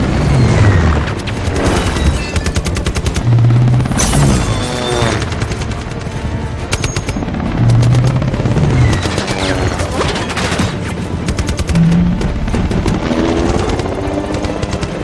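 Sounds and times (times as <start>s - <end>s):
orchestral action music: 0.0s - 15.0s
rapid automatic gunfire: 0.0s - 15.0s.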